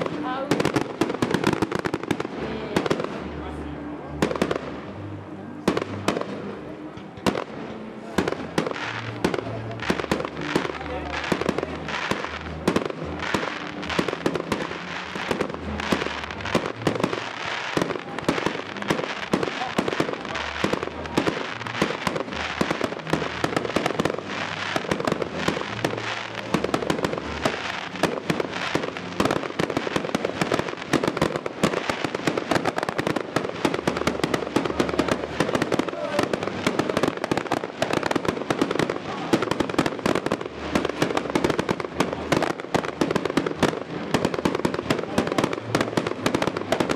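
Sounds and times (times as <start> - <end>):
fireworks bursting and crackling: 0.0 - 46.9.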